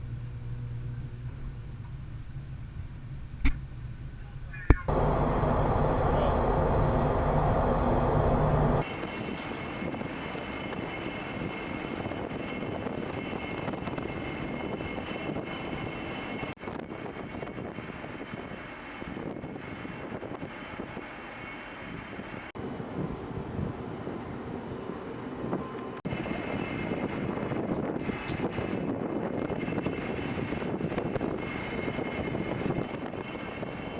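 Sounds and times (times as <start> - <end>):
turbine engine drone with whine: 0.0 - 33.9.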